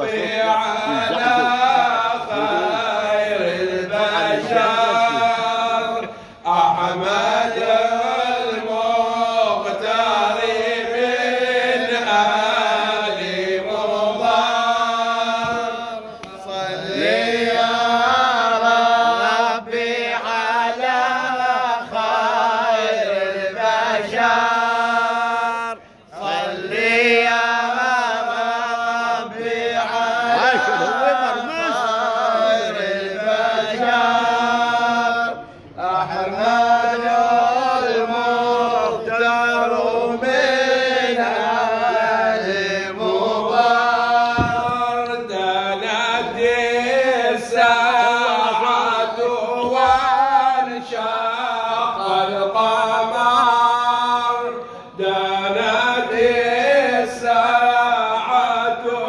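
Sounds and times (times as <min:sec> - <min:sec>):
men chanting unaccompanied: 0:00.0 - 0:59.0.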